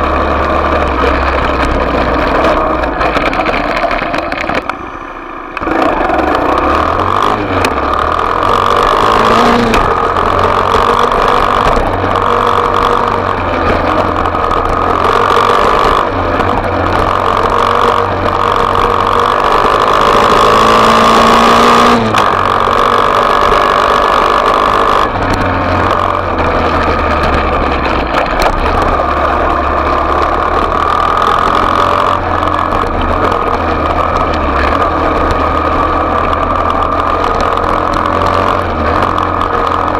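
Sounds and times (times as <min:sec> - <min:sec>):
off-road motorbike engine revving: 0:00.0 - 0:39.9.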